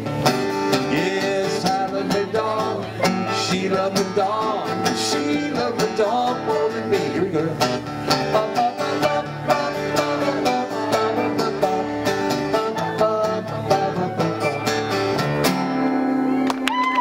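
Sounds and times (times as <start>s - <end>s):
acoustic guitar picking: 0.0s - 16.4s.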